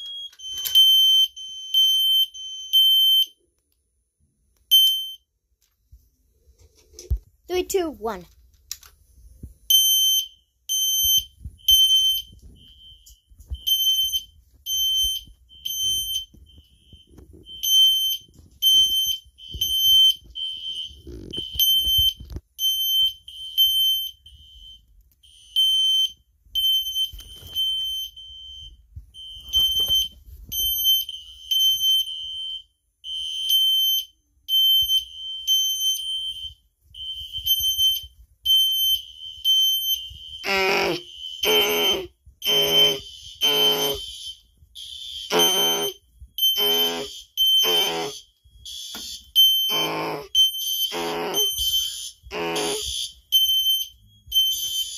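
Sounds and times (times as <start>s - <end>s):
fire alarm horn beeps: 0.0s - 3.3s, 9.7s - 54.9s
faint alarm beeps: 0.0s - 3.4s, 4.2s - 5.3s, 9.2s - 54.9s.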